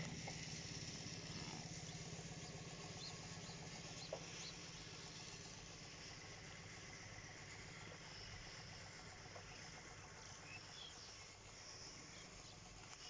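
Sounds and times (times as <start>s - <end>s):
distant engine humming: 0.0s - 13.0s.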